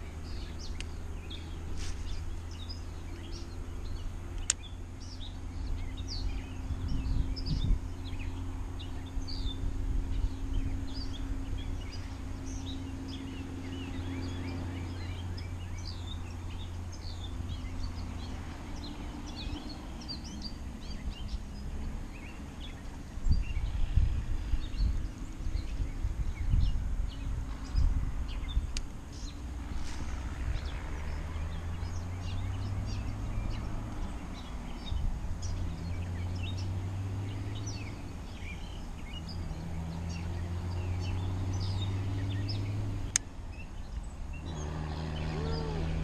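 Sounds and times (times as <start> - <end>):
low rumbling: 0.0 - 46.0
songbirds chirping: 0.0 - 46.0.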